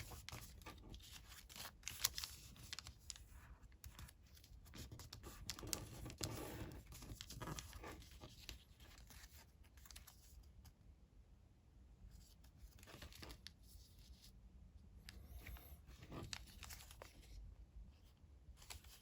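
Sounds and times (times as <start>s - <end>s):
paper rustling and crinkling: 0.0s - 10.6s, 12.2s - 14.3s, 15.1s - 17.4s, 18.0s - 19.0s.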